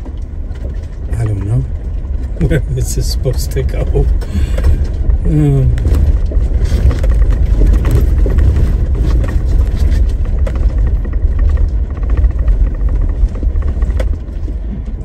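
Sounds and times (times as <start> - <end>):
clicks and knocks from rough ground: 0.0 - 15.0
vehicle rumble on gravel: 0.0 - 15.0.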